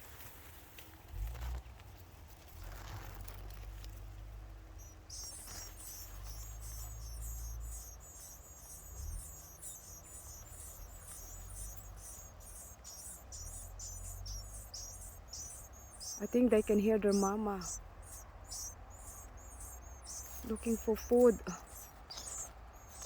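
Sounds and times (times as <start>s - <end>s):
nestling birds cheeping: 4.0s - 23.0s.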